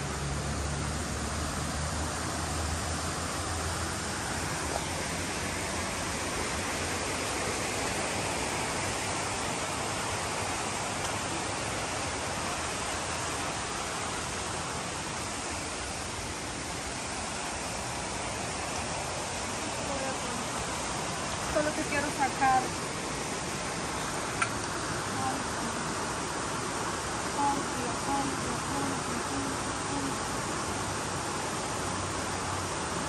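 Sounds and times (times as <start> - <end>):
stream water pouring over weir: 0.0 - 33.0.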